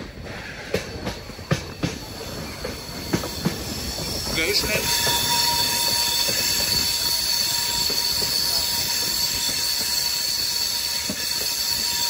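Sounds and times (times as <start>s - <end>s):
train wheels squealing on rails: 0.0s - 12.0s.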